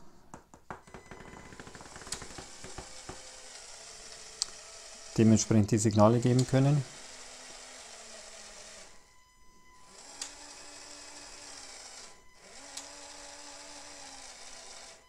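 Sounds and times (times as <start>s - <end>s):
small electric motor whirring: 1.1s - 9.2s, 9.8s - 15.0s.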